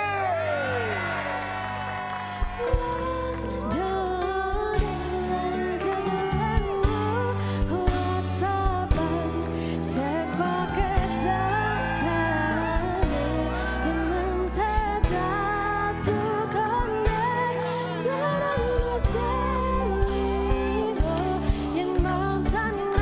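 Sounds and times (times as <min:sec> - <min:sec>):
woman singing into microphone: 0:02.4 - 0:23.0.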